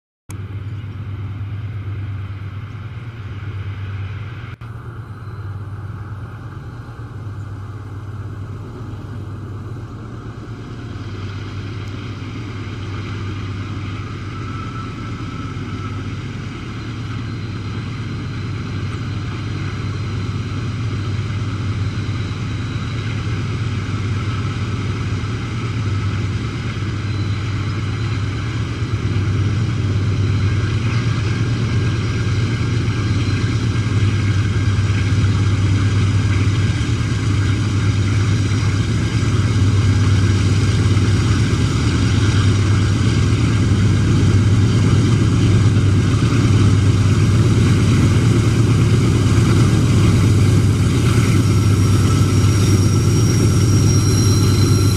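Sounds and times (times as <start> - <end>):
locomotive engine drone: 0.3 - 54.9.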